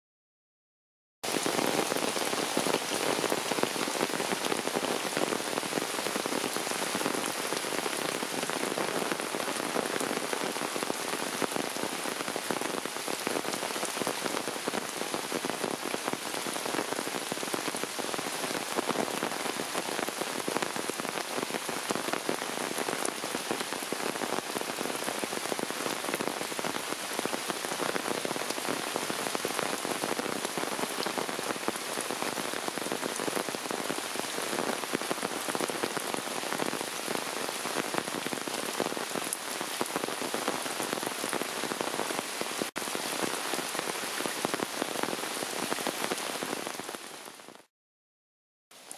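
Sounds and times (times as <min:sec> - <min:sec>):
heavy rain splashing: 0:01.2 - 0:47.6.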